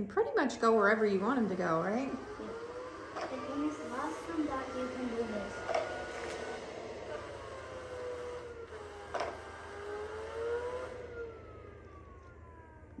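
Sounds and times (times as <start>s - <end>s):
robot vacuum motor whine: 0.0s - 13.0s.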